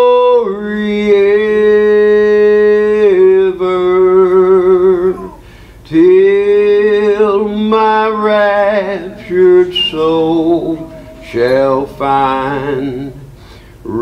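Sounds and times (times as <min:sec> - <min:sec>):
man singing a hymn: 0:00.0 - 0:14.0.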